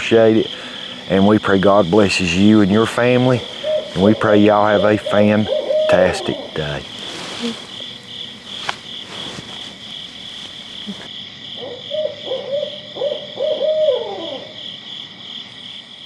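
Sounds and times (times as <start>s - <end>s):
owl hooting: 0.0s - 14.5s.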